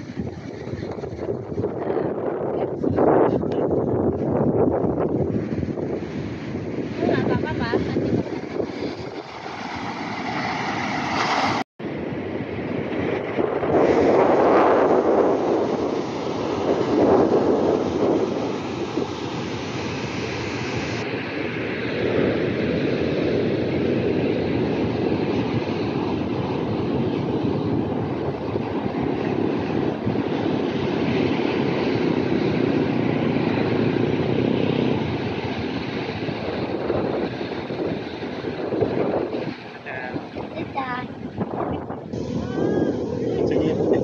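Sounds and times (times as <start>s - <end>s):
wind buffeting microphone: 0.0s - 44.0s
waves breaking on beach: 5.3s - 44.0s.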